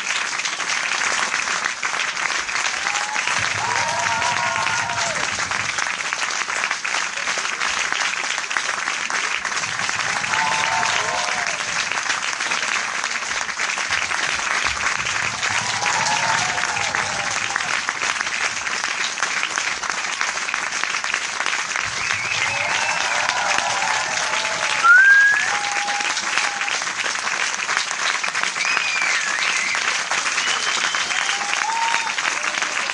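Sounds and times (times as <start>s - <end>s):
large crowd applauding: 0.0s - 32.9s.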